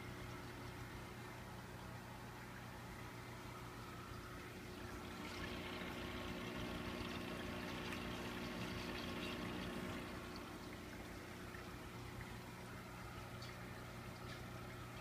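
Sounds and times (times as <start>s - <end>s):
aquarium filter pump hum: 0.0s - 15.0s
water gurgling and sloshing: 0.0s - 15.0s.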